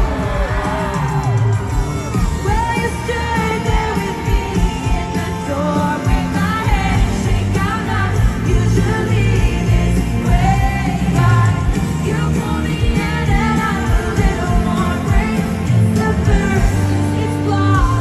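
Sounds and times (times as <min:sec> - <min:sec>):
lead singer: 0:00.0 - 0:18.0
live pop band: 0:00.0 - 0:18.0.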